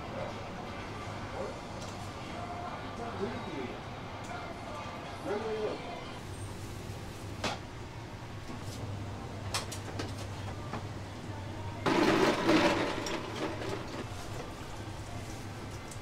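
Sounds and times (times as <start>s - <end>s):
low hum of kitchen equipment: 0.0s - 16.0s.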